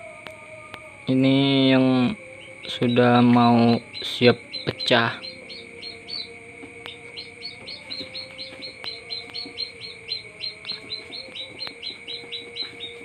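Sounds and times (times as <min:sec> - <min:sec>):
chick peeping: 0:00.2 - 0:13.0.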